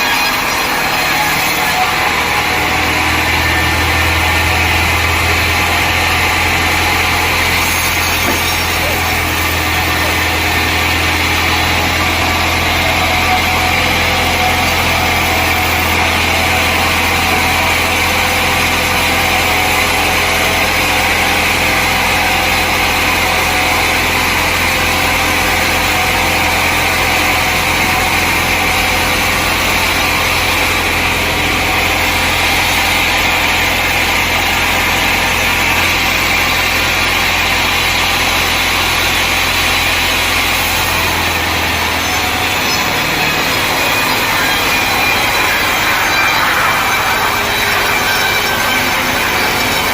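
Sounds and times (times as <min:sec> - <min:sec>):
sawmill machinery drone: 0:00.0 - 0:49.9.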